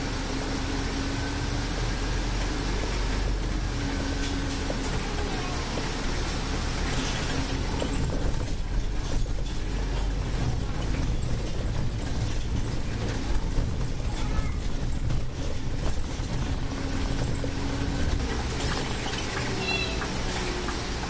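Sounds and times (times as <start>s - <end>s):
bus engine and road rumble: 0.0s - 21.0s
bodywork rattles and knocks: 1.7s - 21.0s.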